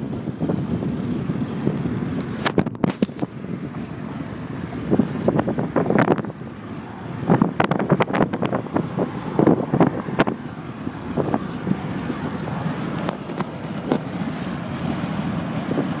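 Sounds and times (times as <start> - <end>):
steady car interior noise: 0.0 - 16.0.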